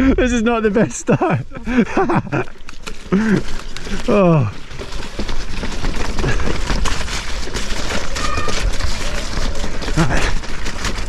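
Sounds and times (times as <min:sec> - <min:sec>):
bike rattling over rough ground: 0:00.0 - 0:11.0
bike tyres rolling through mud: 0:00.0 - 0:11.0.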